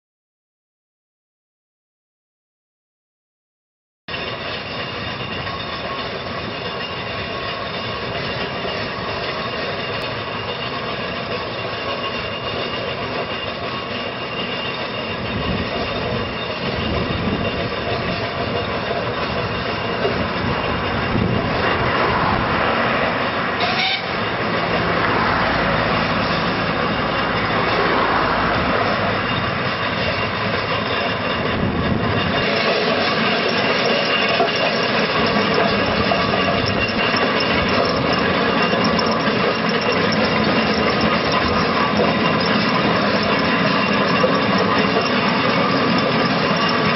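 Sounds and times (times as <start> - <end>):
steam roller clatter and hiss: 4.1 - 46.9.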